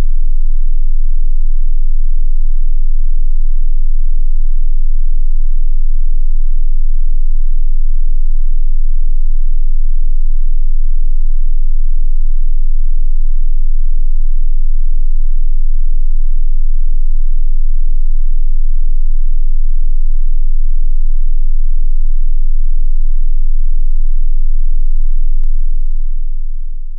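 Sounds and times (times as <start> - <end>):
low sine tone: 0.0 - 26.9.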